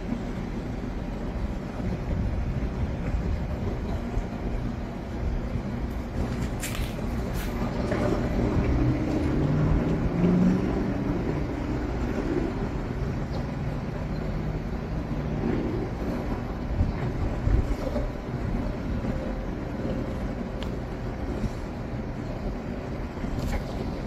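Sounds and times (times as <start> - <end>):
storm wind rumbling and buffeting: 0.0 - 24.0.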